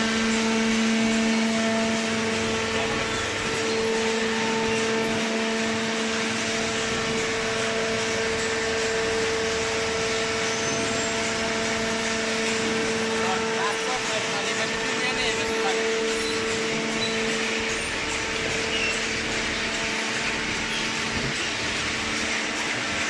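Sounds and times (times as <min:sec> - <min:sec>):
hydraulic power unit humming: 0:00.0 - 0:23.0.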